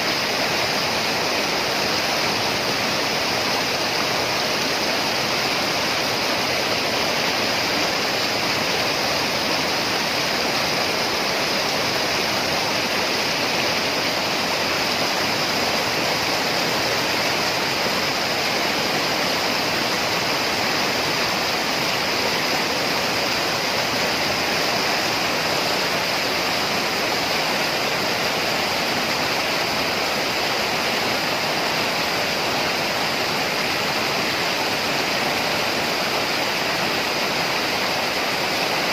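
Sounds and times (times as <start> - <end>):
stream rushing over boulders: 0.0 - 38.9.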